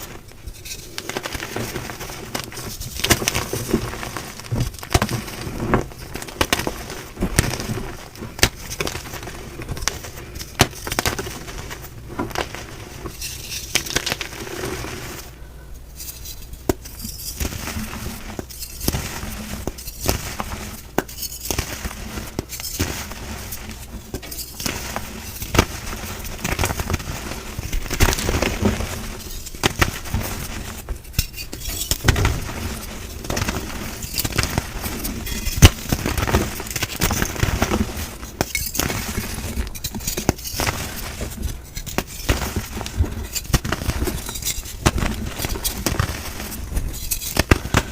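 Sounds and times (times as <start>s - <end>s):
chalk blocks crushed and crumbled: 0.0s - 15.3s, 16.0s - 47.9s.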